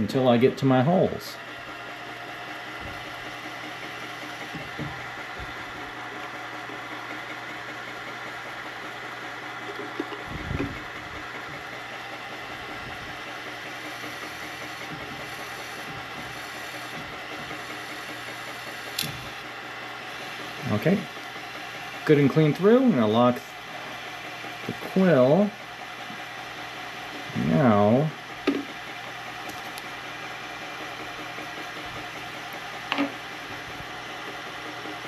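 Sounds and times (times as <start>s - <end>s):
milling machine spindle hum and whine: 0.0s - 35.0s.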